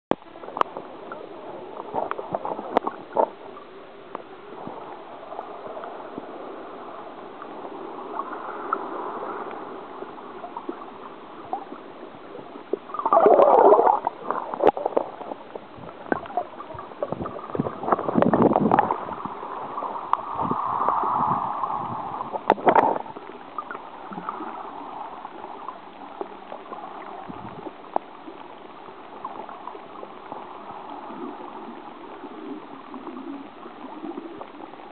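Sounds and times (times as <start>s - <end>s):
rushing water surges: 0.1s - 34.9s
underwater gurgling and sloshing: 0.1s - 34.9s.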